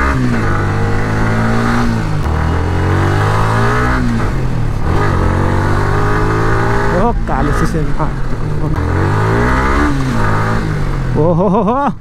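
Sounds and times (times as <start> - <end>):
motorcycle engine accelerating: 0.0 - 11.8.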